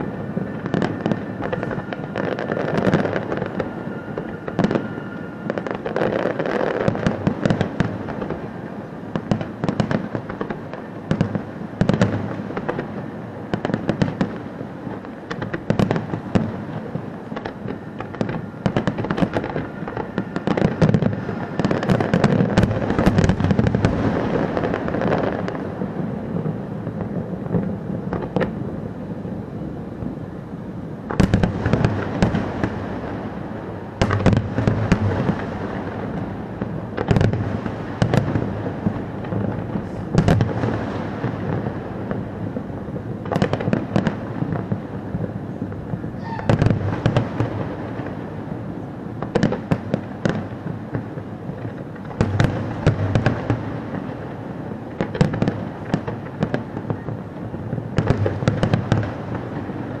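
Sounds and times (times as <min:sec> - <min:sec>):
fireworks bangs and pops: 0:00.0 - 0:30.4, 0:31.0 - 1:00.0.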